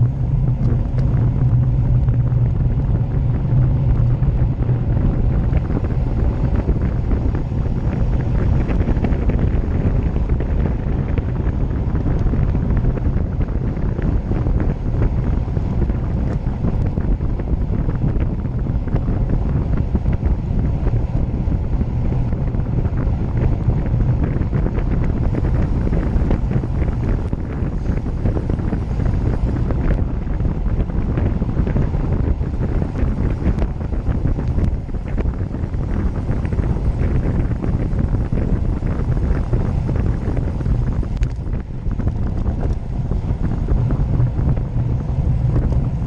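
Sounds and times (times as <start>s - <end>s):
tyre noise on asphalt: 0.0s - 46.0s
wind buffeting microphone: 0.0s - 46.0s.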